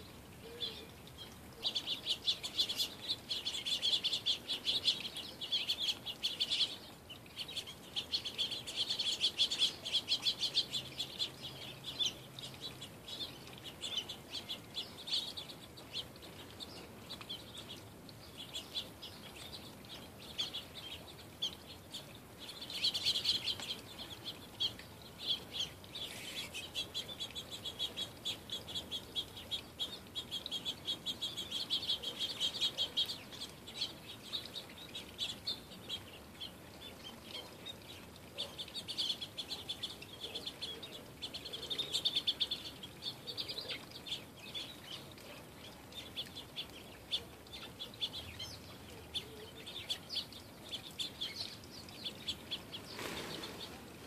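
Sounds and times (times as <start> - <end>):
songbirds chirping and chattering: 0.0 - 54.0.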